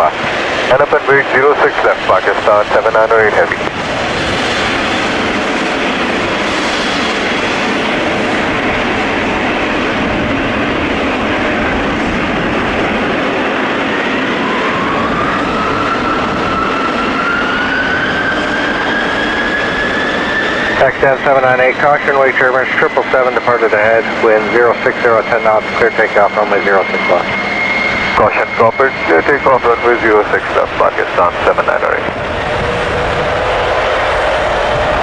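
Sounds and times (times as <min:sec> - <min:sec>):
jet engine whine rising: 0:00.0 - 0:35.0
jet engines roaring: 0:00.0 - 0:35.0.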